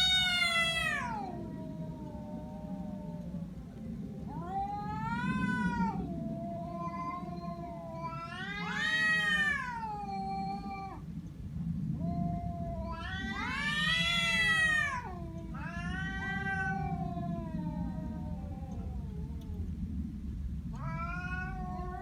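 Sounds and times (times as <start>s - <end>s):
cat yowling: 0.0s - 3.4s, 4.3s - 11.0s, 12.0s - 19.7s, 20.7s - 22.0s.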